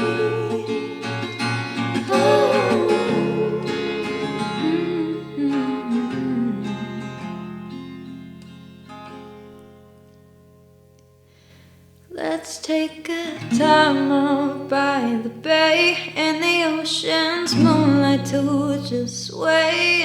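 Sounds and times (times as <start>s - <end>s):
pop song with acoustic guitar: 0.0s - 9.6s, 12.1s - 20.0s.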